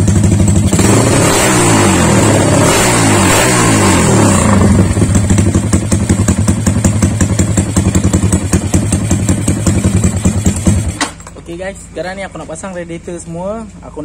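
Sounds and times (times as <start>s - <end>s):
motorcycle engine revving and idling: 0.0s - 14.0s.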